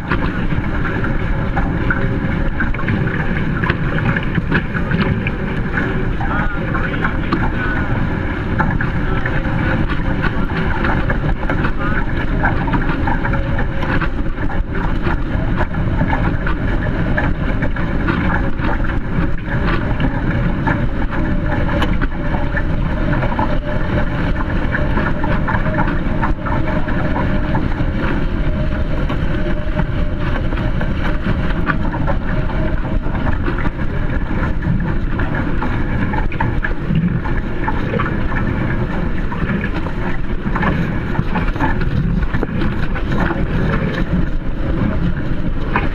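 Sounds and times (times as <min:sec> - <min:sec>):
water rushing and spraying: 0:00.0 - 0:45.9
wind buffeting microphone: 0:00.0 - 0:45.9.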